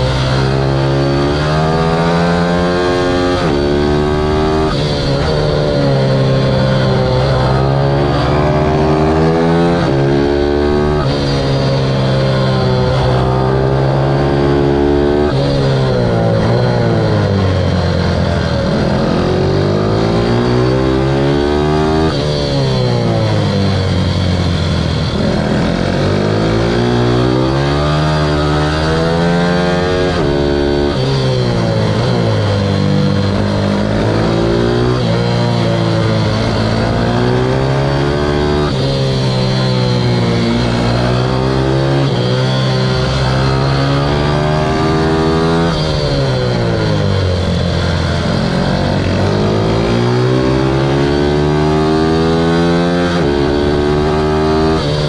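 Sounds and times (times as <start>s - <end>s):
motorbike engine revving: 0.0s - 55.0s
wind and road noise: 0.0s - 55.0s.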